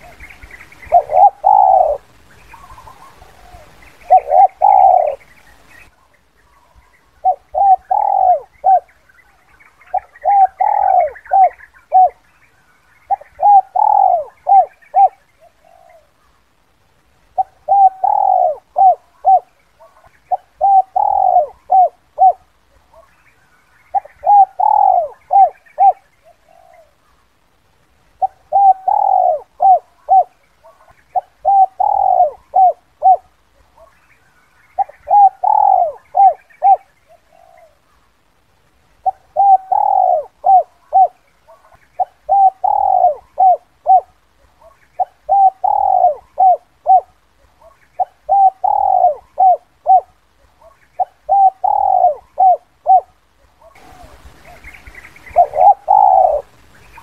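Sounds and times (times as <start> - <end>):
dove cooing: 0.0 - 12.3, 13.0 - 16.4, 17.3 - 27.2, 28.1 - 34.0, 34.6 - 38.0, 39.0 - 57.0.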